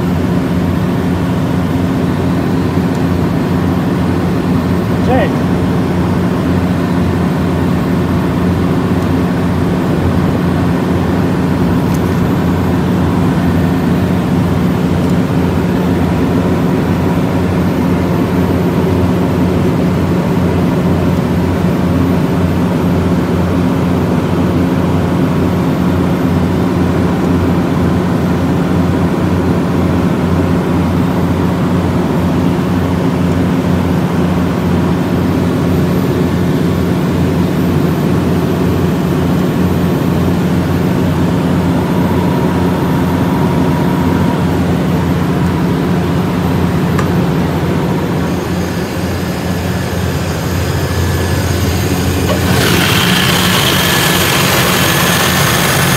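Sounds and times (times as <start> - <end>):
diesel generator running: 0.0 - 55.9.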